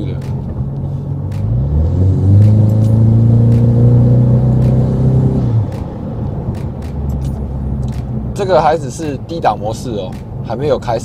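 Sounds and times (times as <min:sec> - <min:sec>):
car engine accelerating: 0:00.0 - 0:09.4.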